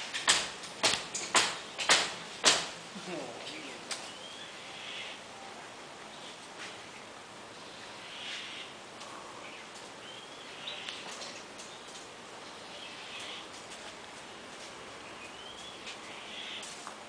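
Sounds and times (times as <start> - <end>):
birds chirping: 0.0 - 17.0
steady outdoor hiss: 0.0 - 17.0.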